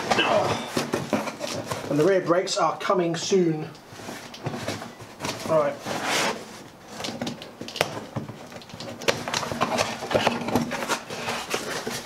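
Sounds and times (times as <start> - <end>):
packaging rustling: 0.0 - 2.5, 3.8 - 12.0.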